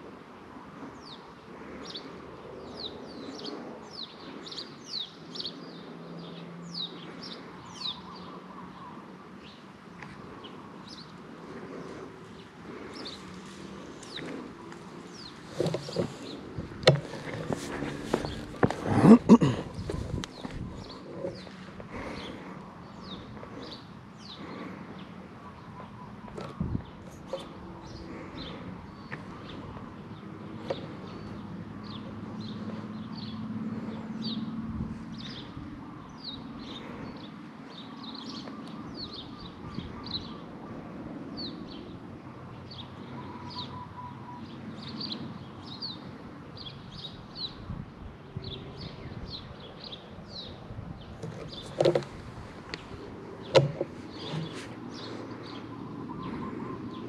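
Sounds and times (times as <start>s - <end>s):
small birds chirping: 0.0s - 47.8s, 48.4s - 57.0s.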